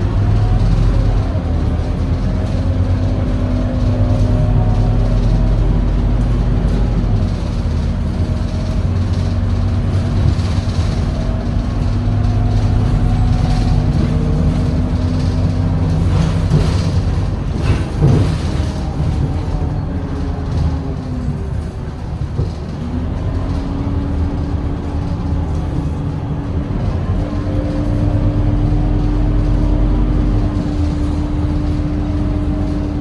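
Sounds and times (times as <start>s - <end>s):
bus diesel engine droning: 0.0s - 33.0s.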